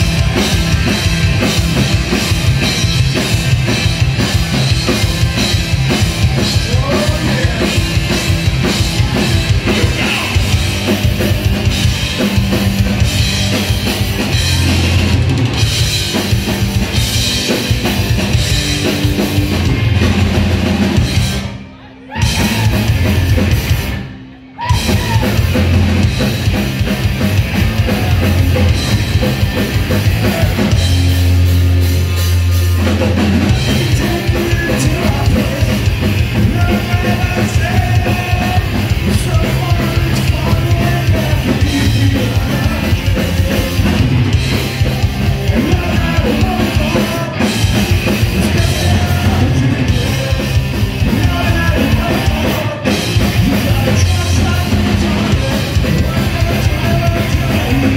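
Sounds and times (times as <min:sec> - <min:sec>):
bass guitar: 0:00.0 - 0:57.9
distorted electric guitars: 0:00.0 - 0:57.9
drum kit: 0:00.0 - 0:57.9
rock vocals: 0:00.0 - 0:57.9.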